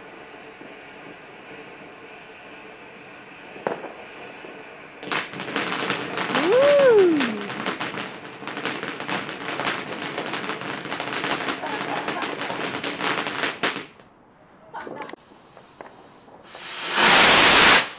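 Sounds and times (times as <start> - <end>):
firework whistle: 0.0 - 14.0, 16.4 - 17.9
fireworks crackling: 0.0 - 14.1, 15.0 - 17.9.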